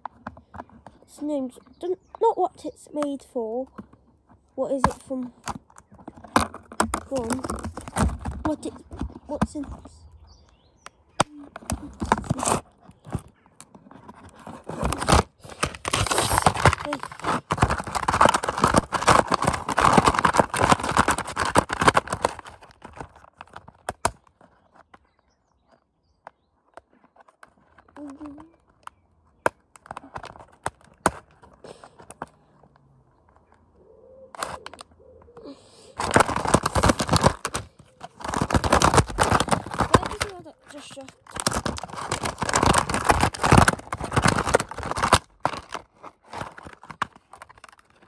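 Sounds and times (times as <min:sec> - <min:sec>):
plastic bucket crinkling and rattling: 0:00.0 - 0:48.0.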